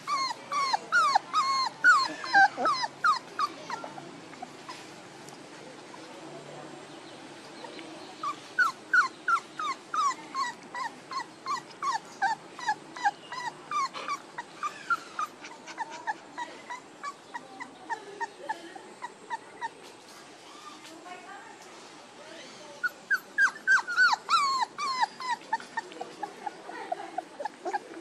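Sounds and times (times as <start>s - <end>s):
puppies whimpering: 0.0s - 4.8s, 7.6s - 19.8s, 22.4s - 28.0s.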